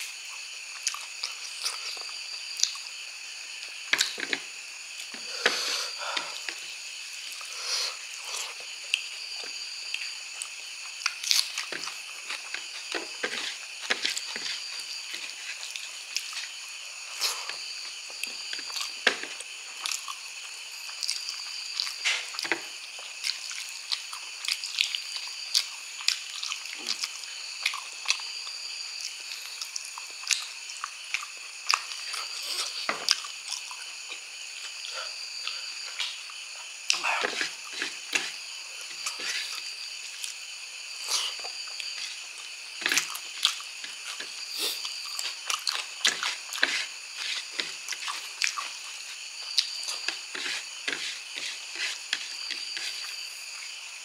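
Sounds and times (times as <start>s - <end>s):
person chewing food: 0.2s - 53.8s.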